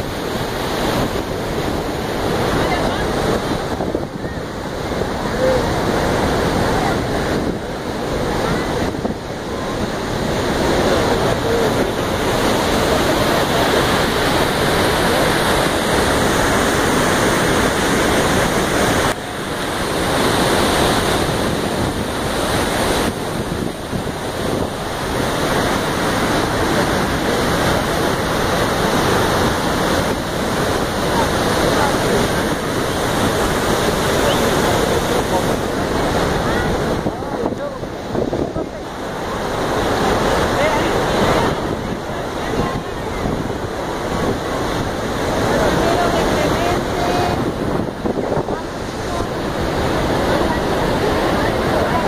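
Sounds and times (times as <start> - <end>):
waterfall rushing water: 0.0 - 52.0
wind on the microphone: 0.0 - 52.0.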